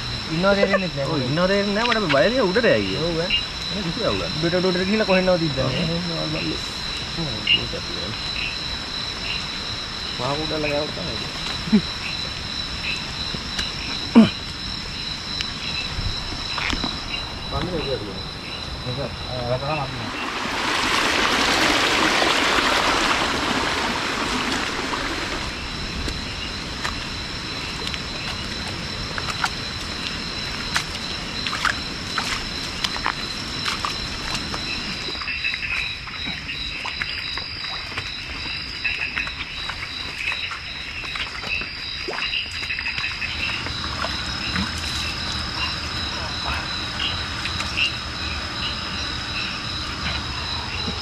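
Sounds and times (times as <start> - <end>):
frogs and insects trilling: 0.0 - 51.0.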